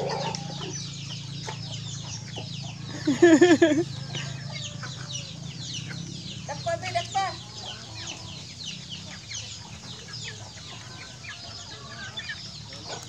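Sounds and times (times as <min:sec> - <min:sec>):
chicks peeping: 0:00.0 - 0:13.0
hens clucking: 0:00.0 - 0:13.0.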